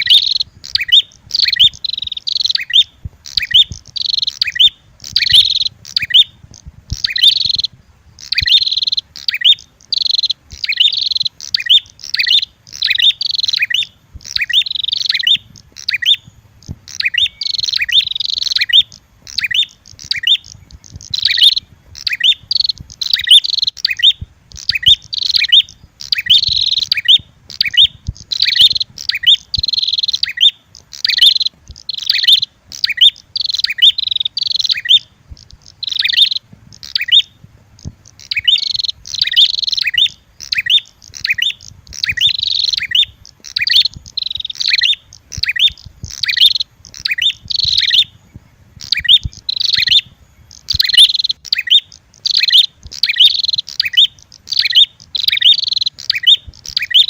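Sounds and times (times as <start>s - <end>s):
bird shrill chirping: 0.0s - 57.0s.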